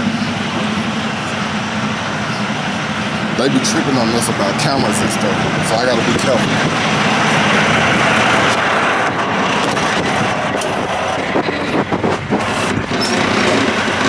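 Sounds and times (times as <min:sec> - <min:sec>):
heavy truck engine and road noise: 0:00.0 - 0:14.0.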